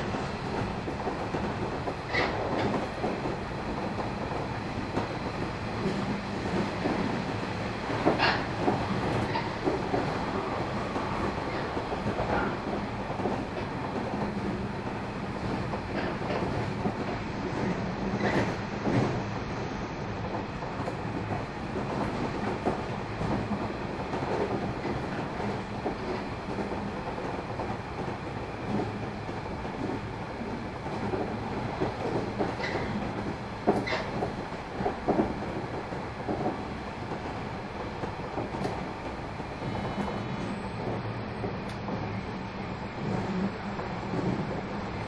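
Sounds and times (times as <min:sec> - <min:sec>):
rail joint clicks: 0:00.0 - 0:19.6, 0:20.2 - 0:45.0
train wheels rumbling on rail: 0:00.0 - 0:45.0.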